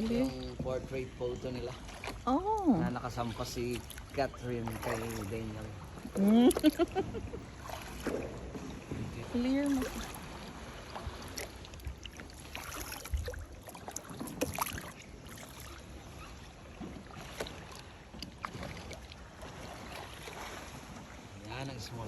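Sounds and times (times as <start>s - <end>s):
paddle strokes splashing water: 0.0s - 22.0s.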